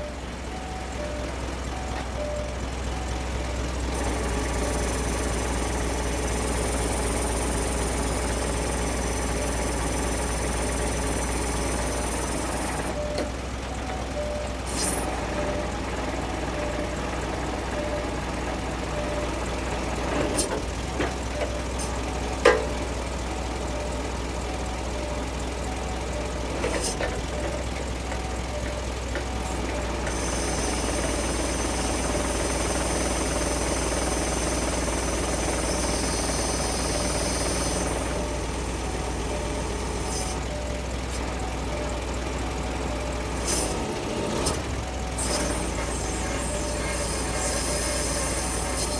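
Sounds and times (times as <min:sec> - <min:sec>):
truck diesel engine running: 0:00.0 - 0:48.9.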